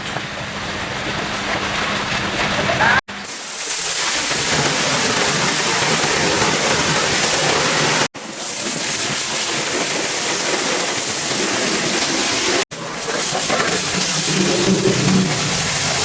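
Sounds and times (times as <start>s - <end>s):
pressure washer spray hissing: 2.9s - 16.0s.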